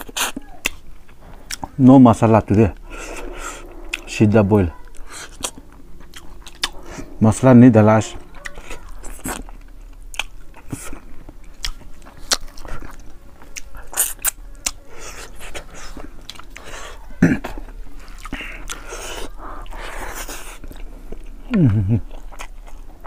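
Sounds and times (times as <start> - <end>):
wet chewing and lip-smacking: 0.0 - 1.8, 4.8 - 7.1, 8.4 - 23.0.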